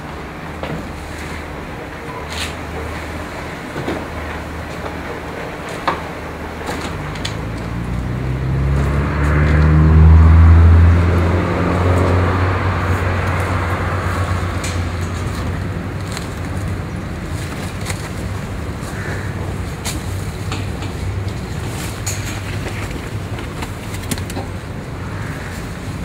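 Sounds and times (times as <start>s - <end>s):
heavy vehicle engine drone: 0.0s - 26.0s.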